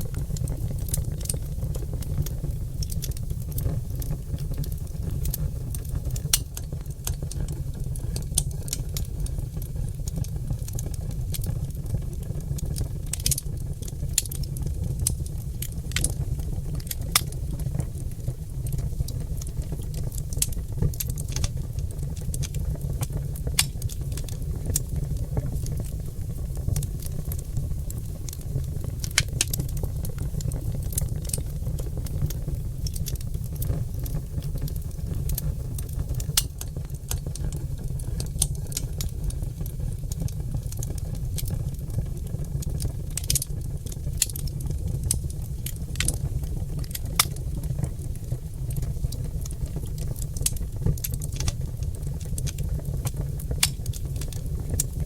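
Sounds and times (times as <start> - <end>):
logs crackling and popping in fireplace: 0.0 - 55.0.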